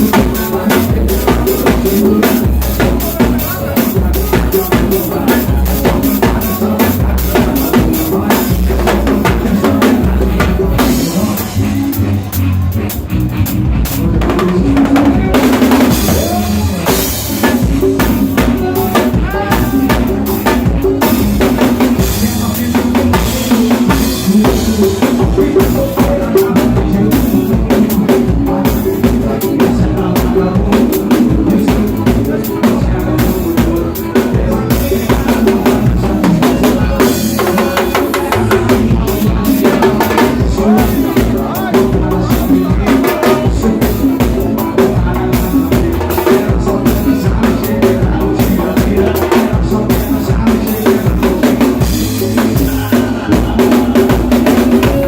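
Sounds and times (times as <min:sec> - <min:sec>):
drum kit playing: 0:00.0 - 0:55.0
recorded backing song: 0:00.0 - 0:55.0.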